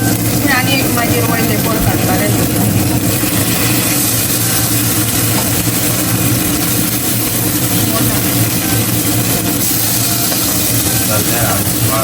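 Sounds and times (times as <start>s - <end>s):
food frying in a pan: 0.0s - 12.0s
kitchen hum: 0.0s - 12.0s.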